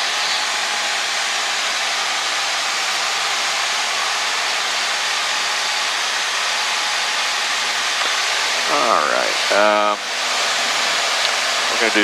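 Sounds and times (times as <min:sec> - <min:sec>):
aircraft piston engine drone: 0:00.0 - 0:12.0.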